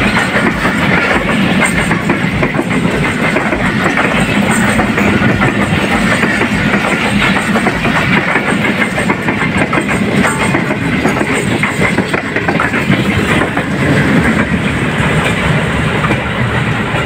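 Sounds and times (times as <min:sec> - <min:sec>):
train wheels clattering over rail joints: 0:00.0 - 0:17.0.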